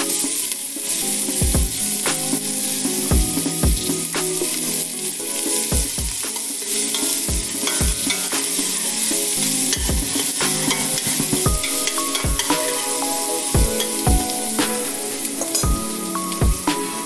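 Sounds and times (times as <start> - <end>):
background music with regular beat: 0.0 - 17.0
shallots and garlic sizzling: 0.0 - 17.0.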